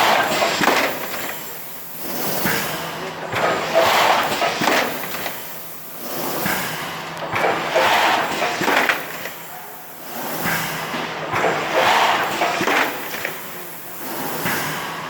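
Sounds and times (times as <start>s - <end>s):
machine hissing air bursts: 0.0s - 15.0s.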